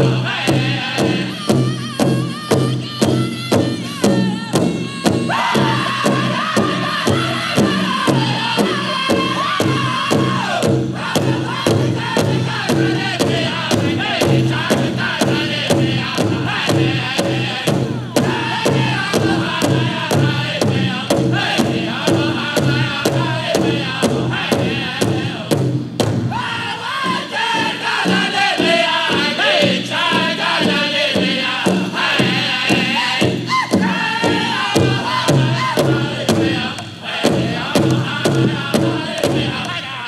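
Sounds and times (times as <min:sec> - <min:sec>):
big drum pounding: 0:00.0 - 0:40.0
group singing in chanting voices: 0:00.0 - 0:40.0.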